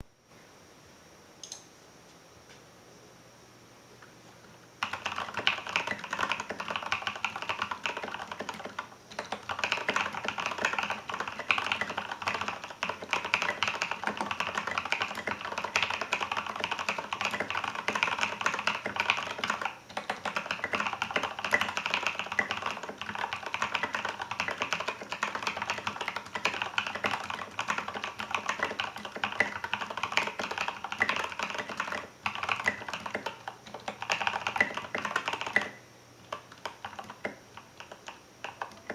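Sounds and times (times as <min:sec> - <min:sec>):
typing on mechanical keyboard: 0:04.8 - 0:38.9.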